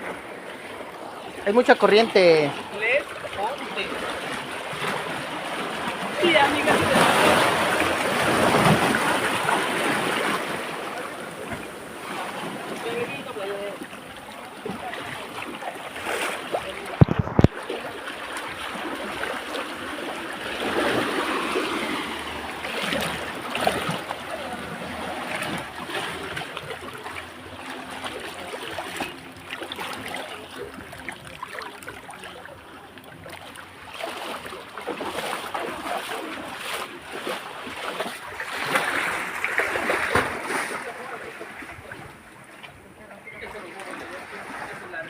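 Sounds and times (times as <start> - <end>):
sea water washing among rocks: 0.0 - 32.7, 33.5 - 41.5.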